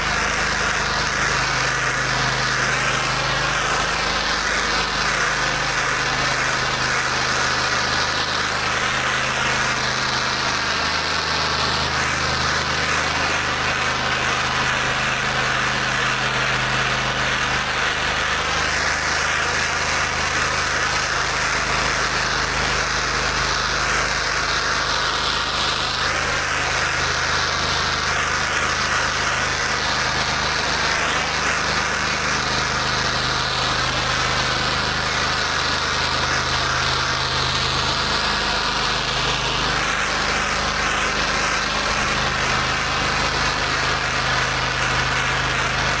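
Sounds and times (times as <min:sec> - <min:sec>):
high-pressure water spraying: 0:00.0 - 0:46.0
pressure washer engine running: 0:00.0 - 0:46.0.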